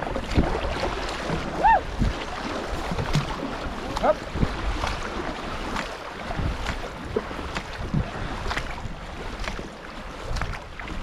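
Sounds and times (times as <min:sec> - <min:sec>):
paddles splashing in water: 0:00.0 - 0:11.0
rushing river water: 0:00.0 - 0:11.0
wind rumble on microphone: 0:00.0 - 0:11.0.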